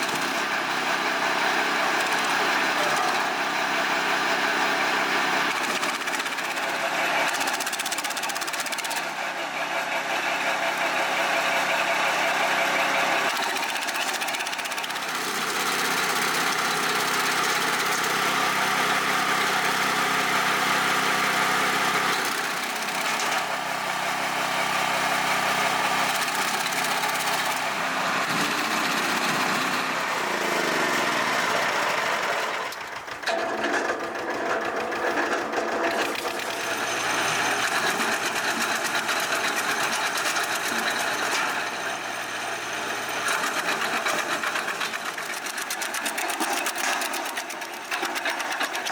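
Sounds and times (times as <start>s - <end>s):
wood chipper engine drone: 0.0s - 48.9s.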